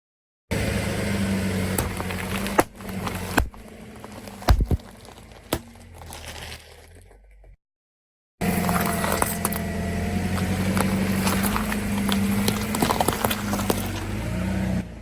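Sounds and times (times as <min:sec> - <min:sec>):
car engine hum: 0:00.5 - 0:07.6, 0:08.4 - 0:15.0
tyre crushing object: 0:00.6 - 0:07.5, 0:08.4 - 0:14.5.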